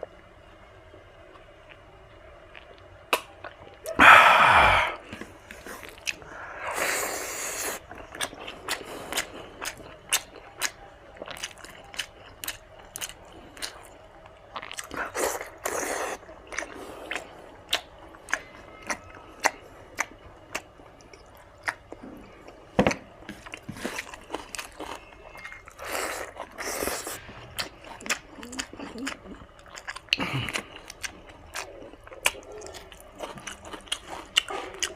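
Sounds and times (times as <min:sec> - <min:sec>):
noisy eating sounds: 0:00.0 - 0:34.9
wet chewing and smacking: 0:01.3 - 0:04.0, 0:05.1 - 0:06.3, 0:07.6 - 0:34.9.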